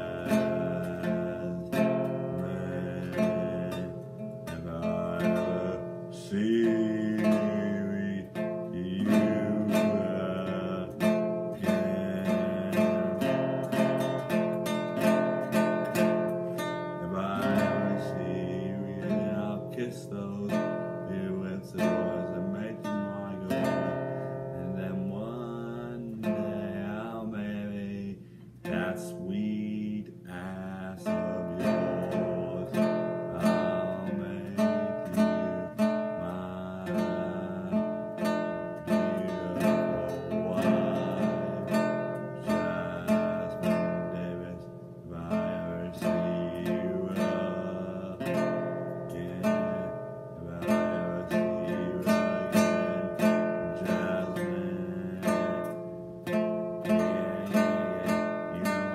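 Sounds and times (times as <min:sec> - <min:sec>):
acoustic guitar strumming: 0:00.0 - 0:58.9
man singing: 0:00.0 - 0:58.9.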